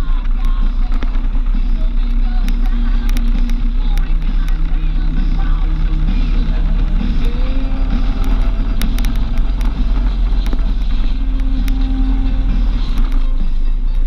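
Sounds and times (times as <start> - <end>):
vehicle driving rumble: 0.0 - 14.0
light ticks: 0.1 - 11.9.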